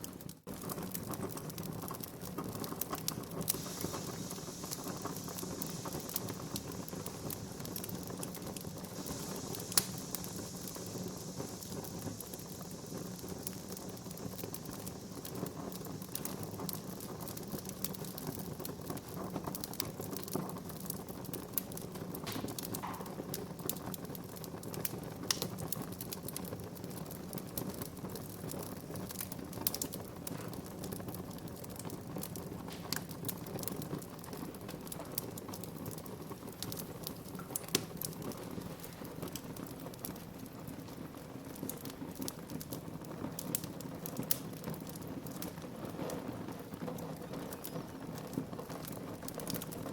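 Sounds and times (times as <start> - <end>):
fire snapping and popping: 0.0 - 49.9
low rush of fire burning: 0.0 - 49.9.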